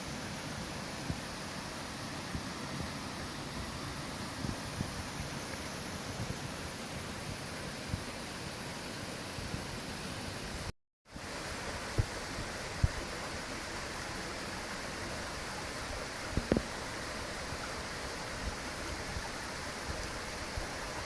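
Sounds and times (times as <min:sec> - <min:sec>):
rushing water at waterfalls: 0:00.0 - 0:21.0.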